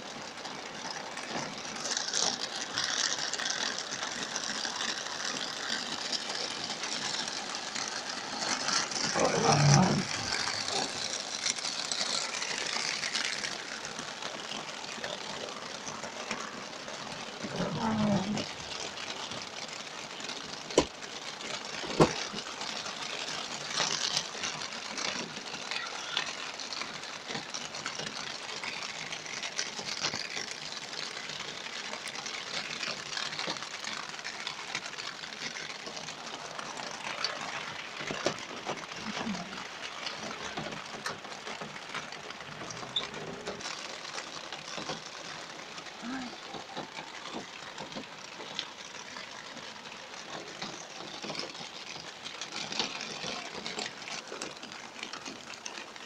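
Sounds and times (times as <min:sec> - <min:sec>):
heavy rain drumming on car roof: 0:00.0 - 0:56.0.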